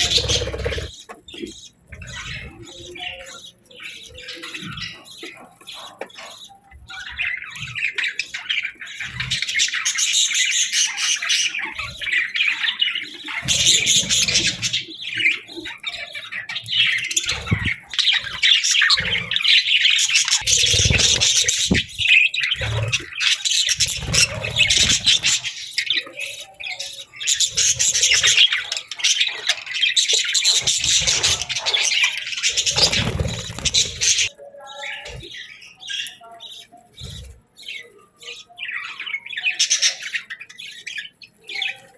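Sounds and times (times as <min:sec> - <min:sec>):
budgerigars chattering: 0:00.0 - 0:41.8.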